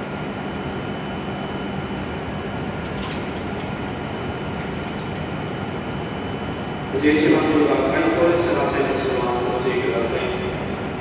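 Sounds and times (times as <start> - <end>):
train humming: 1.8 - 11.0.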